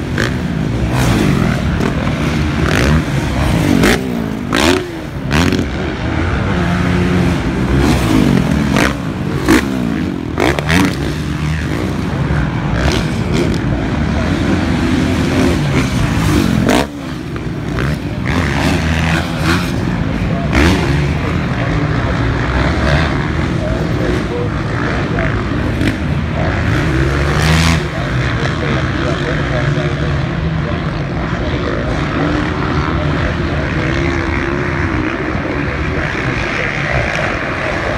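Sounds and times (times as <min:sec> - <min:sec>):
motocross bike engines revving: 0:00.0 - 0:37.9.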